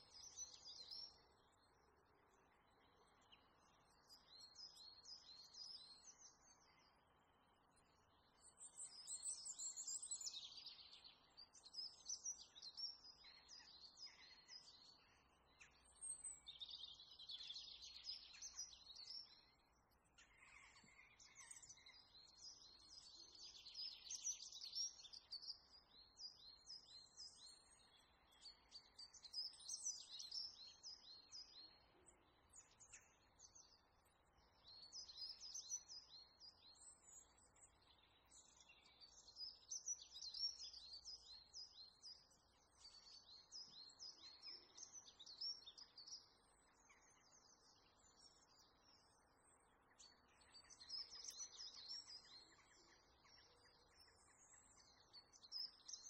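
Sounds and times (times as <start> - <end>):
faint birdsong chirps and trills: 0.0 - 56.0.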